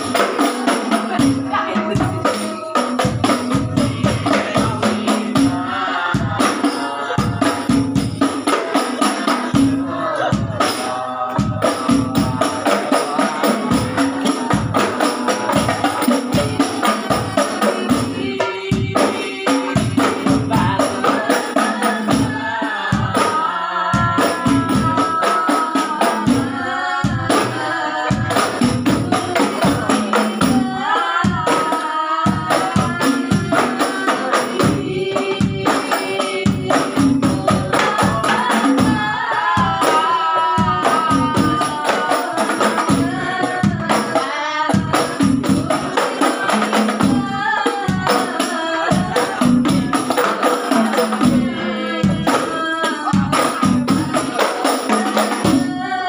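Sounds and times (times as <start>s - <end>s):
frame drums and bass drums rhythm: 0.0s - 56.0s
voices singing: 0.0s - 56.0s.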